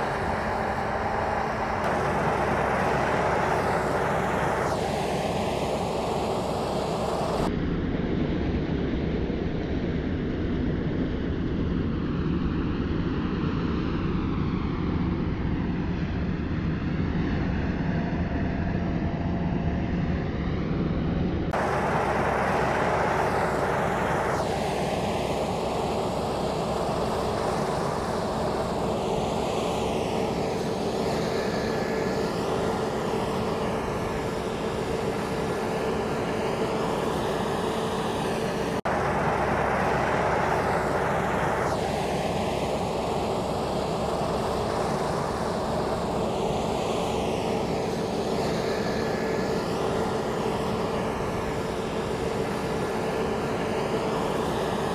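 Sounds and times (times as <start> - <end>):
combine harvester drone: 0.0 - 54.9
faint machine whines: 0.0 - 54.9.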